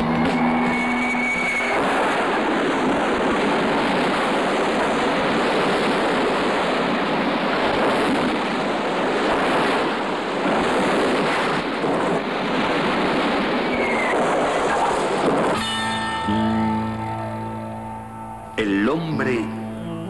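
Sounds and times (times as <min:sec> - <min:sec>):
dense rushing noise: 0:00.0 - 0:19.7.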